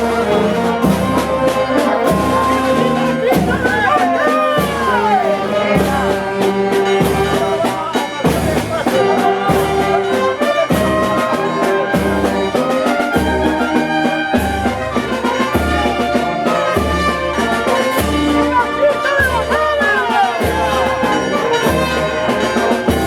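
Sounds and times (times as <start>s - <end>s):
brass band playing a march: 0.0s - 23.0s
low drum beat: 0.0s - 23.0s.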